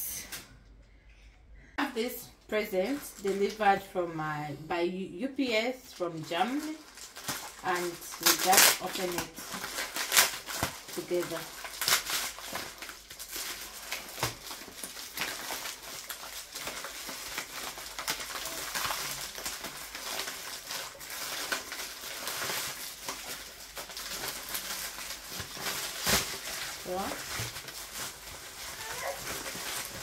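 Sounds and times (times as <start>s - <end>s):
packaging rustling and crinkling: 2.8s - 3.7s, 5.9s - 30.0s.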